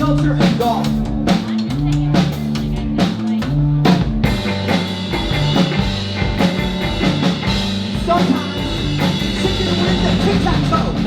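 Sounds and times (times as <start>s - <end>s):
bass guitar: 0.0s - 11.0s
drum kit: 0.0s - 11.0s
electric guitar: 0.4s - 11.0s.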